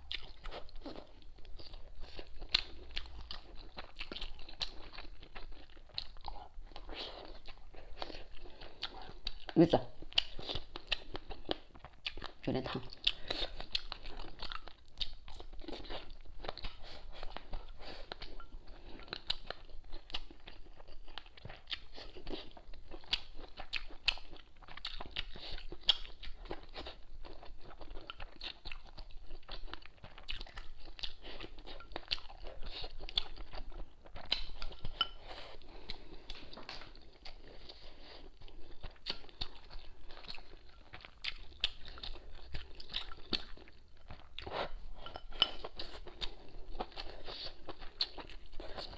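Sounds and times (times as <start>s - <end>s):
person chewing and biting food: 0.0s - 48.9s.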